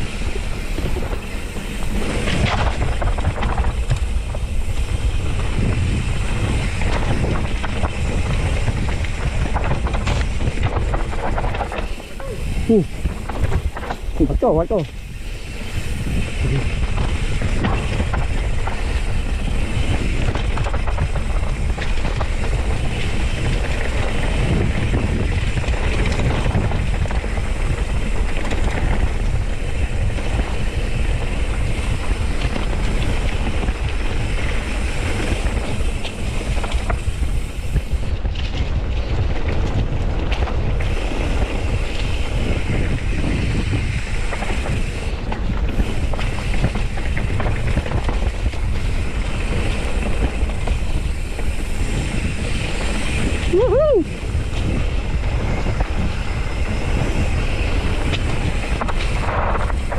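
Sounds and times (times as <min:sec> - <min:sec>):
bike rattling over bumps: 0:00.0 - 0:59.9
tyres rolling on dirt: 0:00.0 - 0:59.9
wind buffeting microphone: 0:00.0 - 0:59.9.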